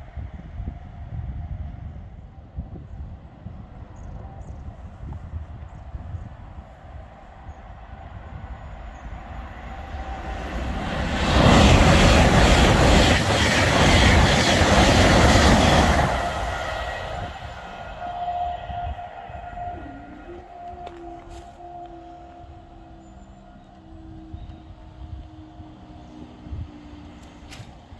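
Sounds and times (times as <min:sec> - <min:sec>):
train passing at speed: 0:00.0 - 0:27.9.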